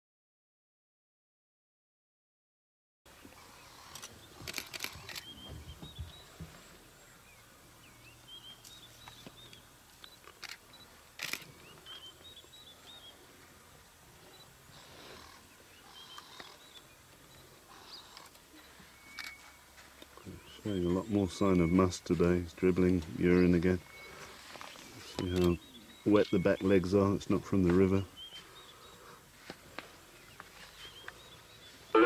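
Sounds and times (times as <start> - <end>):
small birds chirping: 3.1 - 32.0.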